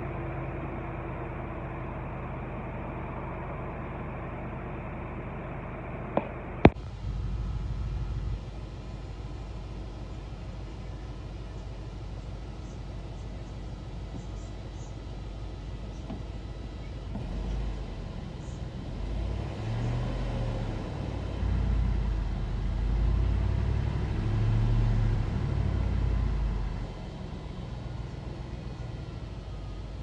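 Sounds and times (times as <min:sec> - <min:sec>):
pickup engine revving: 0:02.0 - 0:30.0.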